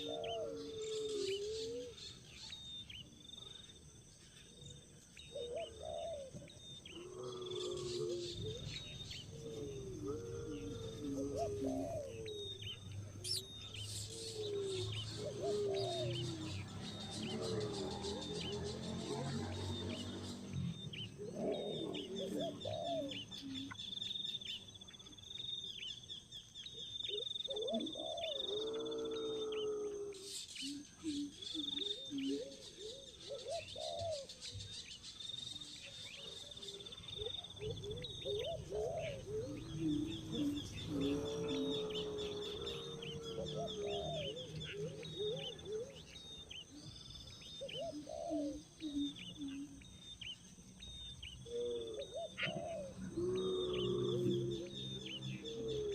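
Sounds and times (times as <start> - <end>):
lower bird calls: 0.0 - 55.9.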